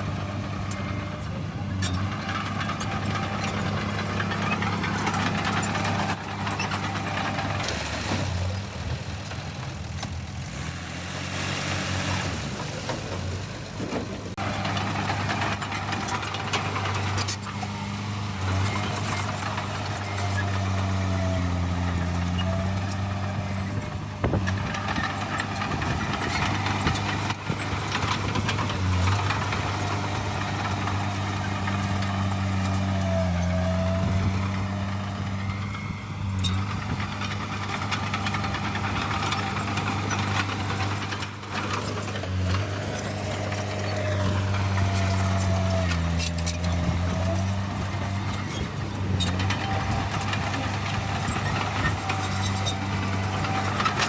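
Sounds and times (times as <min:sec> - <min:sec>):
heavy diesel machinery engines: 0:00.0 - 0:54.0.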